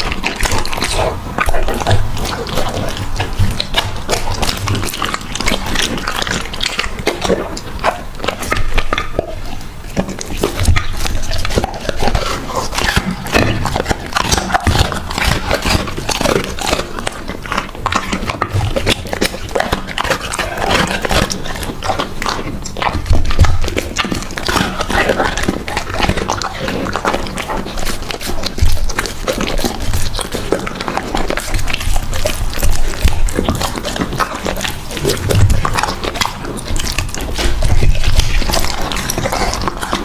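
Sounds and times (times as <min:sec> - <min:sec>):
dog chewing and crunching: 0:00.0 - 0:40.0.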